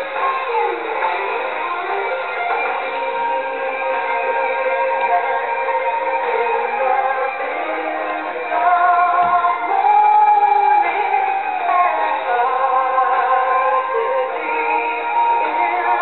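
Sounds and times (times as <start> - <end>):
song with vocals: 0.0 - 16.0.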